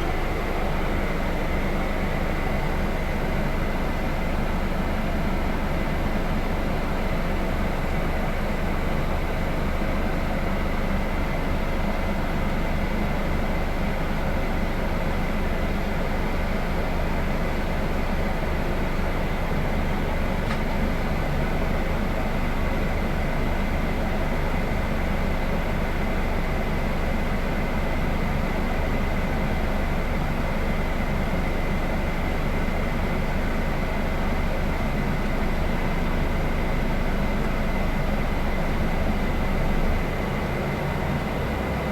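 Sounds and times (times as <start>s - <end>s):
diesel engine drone: 0.0s - 41.9s.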